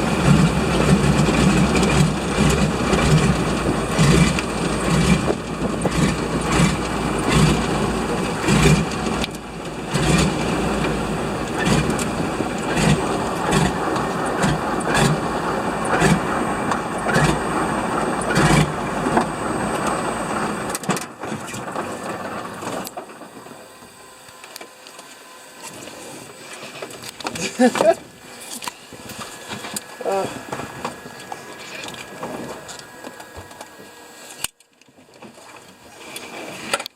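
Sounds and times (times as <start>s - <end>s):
floatplane engine running: 0.0s - 36.9s.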